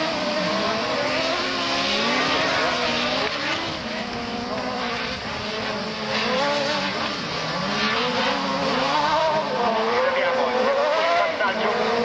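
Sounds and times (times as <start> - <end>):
racing buggy engines revving: 0.0 - 12.0.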